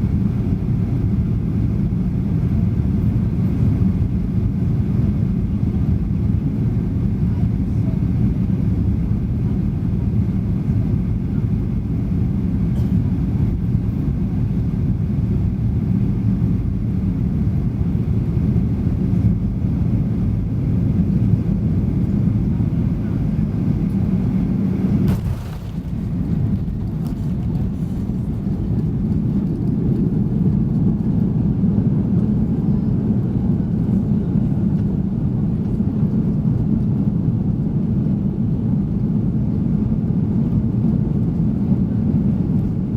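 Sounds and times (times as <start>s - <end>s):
airplane cabin engine rumble: 0.0s - 42.9s.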